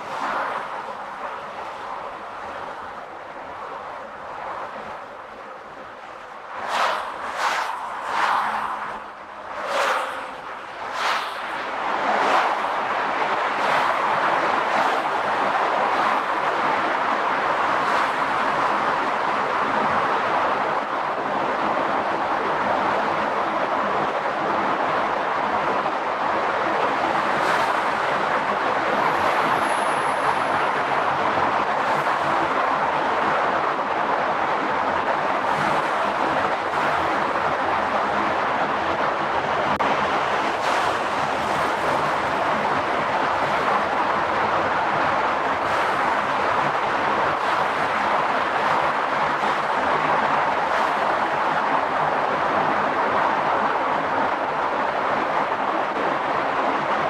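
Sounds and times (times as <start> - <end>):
tyre and wind noise: 0.0 - 57.0.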